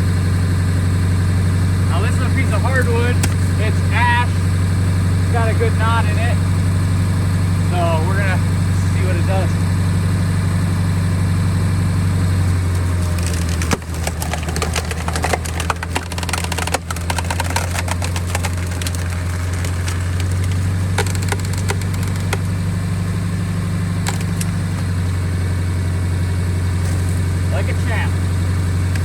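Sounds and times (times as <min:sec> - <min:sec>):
truck engine running: 0:00.0 - 0:29.0
log cracking and splintering: 0:00.1 - 0:10.6, 0:11.3 - 0:29.0.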